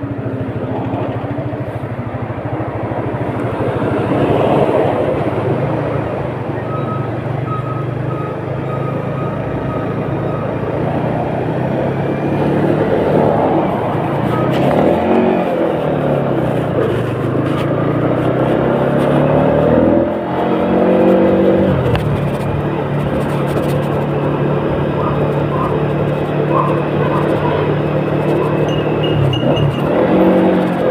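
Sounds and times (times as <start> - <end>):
vehicle engine revving: 0.6 - 30.9.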